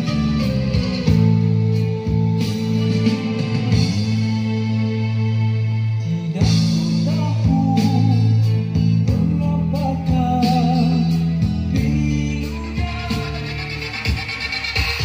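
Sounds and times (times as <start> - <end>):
rock song through soundbar: 0.0 - 15.0.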